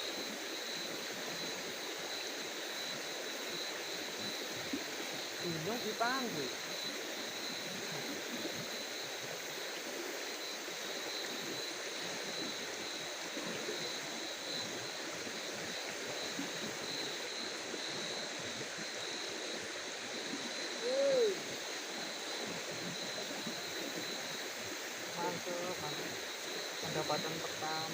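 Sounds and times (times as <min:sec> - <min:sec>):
high-pitched insect drone: 0:00.0 - 0:27.9
rushing water: 0:00.0 - 0:27.9.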